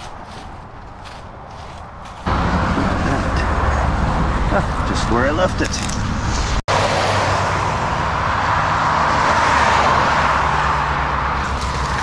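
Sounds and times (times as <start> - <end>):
highway traffic passing: 0.0 - 12.0.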